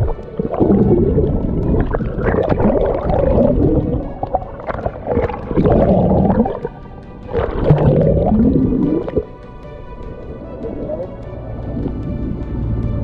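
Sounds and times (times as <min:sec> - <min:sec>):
low rumble: 0:00.0 - 0:13.0
muffled water gurgling and sloshing: 0:00.0 - 0:13.0.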